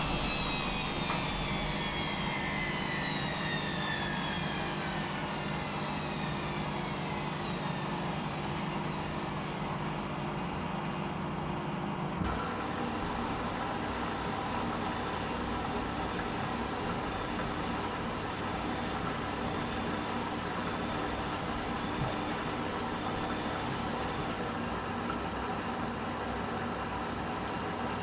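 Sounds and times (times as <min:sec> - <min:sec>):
washing machine motor whine: 0:00.0 - 0:28.0.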